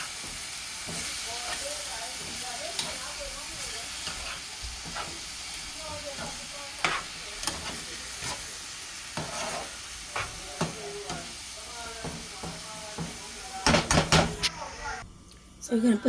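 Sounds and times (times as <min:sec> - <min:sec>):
spatula scraping a pan: 0:00.0 - 0:14.8
greens sizzling in a hot pan: 0:00.0 - 0:15.0.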